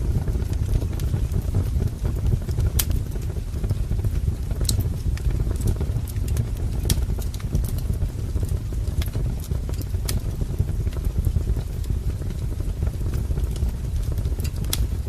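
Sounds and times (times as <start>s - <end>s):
wood fire crackling: 0.0s - 15.0s
firewood pops and snaps: 0.4s - 11.0s, 12.9s - 15.0s.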